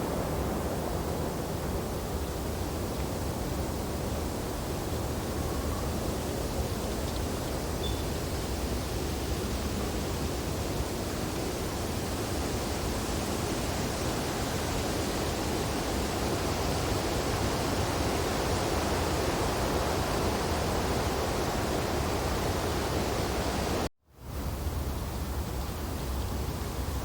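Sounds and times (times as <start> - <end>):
wind blowing through tree branches: 0.0 - 27.0.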